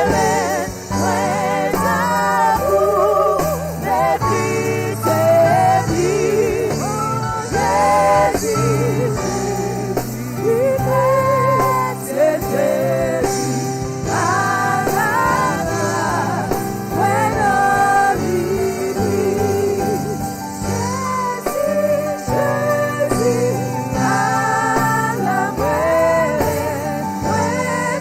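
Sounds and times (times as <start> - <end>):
person singing a slow hymn: 0.0 - 28.0.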